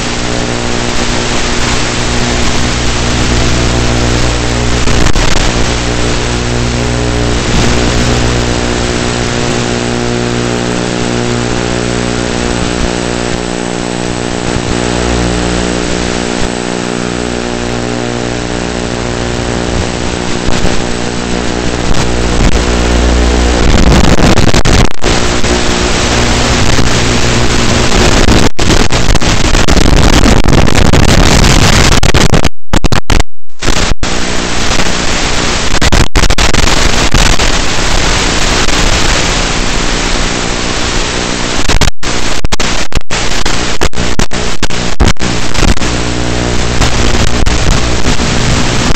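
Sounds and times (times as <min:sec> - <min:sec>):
radio static hiss: 0:00.0 - 0:48.9.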